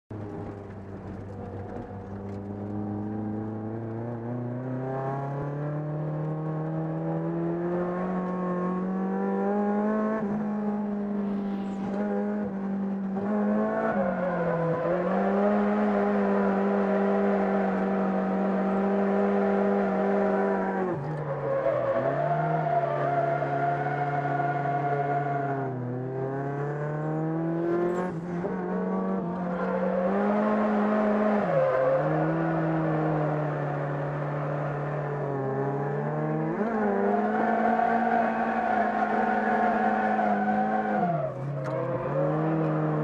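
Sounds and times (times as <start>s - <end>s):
car engine revving: 0.2s - 43.0s.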